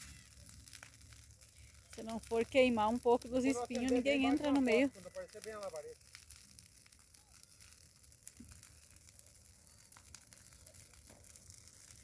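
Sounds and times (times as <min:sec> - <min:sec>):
bonfire crackling and popping: 0:00.0 - 0:12.0
soft hiss of fire: 0:00.0 - 0:12.0.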